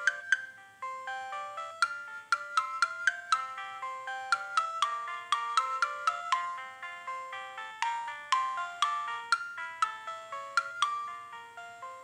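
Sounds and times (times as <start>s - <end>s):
synthesized phone ringtone: 0.0s - 12.0s.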